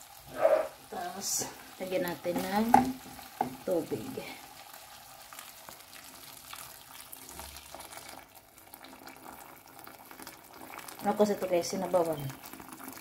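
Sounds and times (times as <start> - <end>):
pan sizzling with crackles: 0.0 - 13.0
water poured into hot pan: 0.0 - 13.0.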